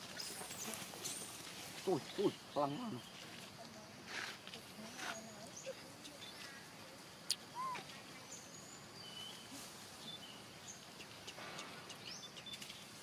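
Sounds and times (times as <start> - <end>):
faint rustle: 0.0 - 13.0
steady background hiss: 0.0 - 13.0.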